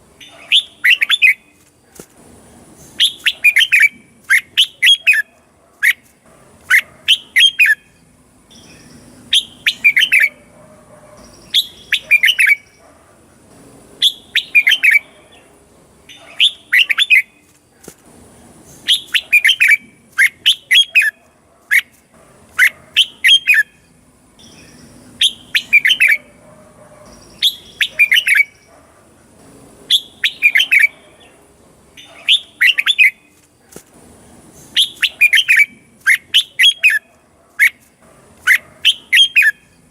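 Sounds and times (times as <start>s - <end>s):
bird singing warbled phrases: 0.0s - 1.6s, 2.8s - 6.0s, 6.6s - 10.5s, 11.2s - 12.9s, 14.0s - 17.5s, 18.6s - 26.4s, 27.0s - 28.8s, 29.9s - 33.4s, 34.5s - 39.9s.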